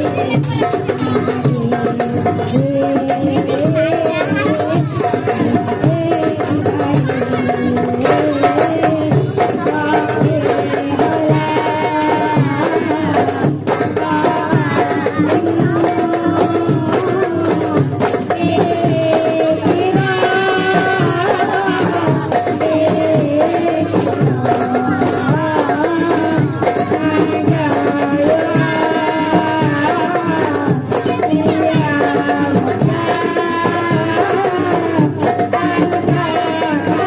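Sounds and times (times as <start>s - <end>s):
hand drums rhythm: 0.0s - 37.0s.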